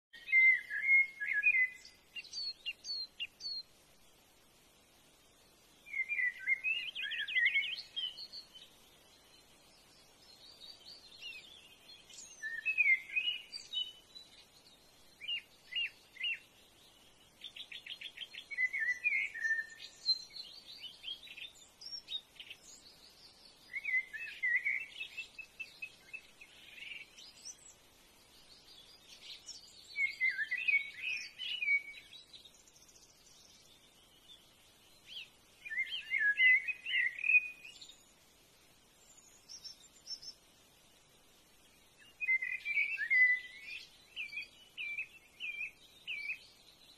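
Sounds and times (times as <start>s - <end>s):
birds singing warbling phrases: 0.2s - 3.7s, 5.8s - 38.3s, 41.6s - 46.9s.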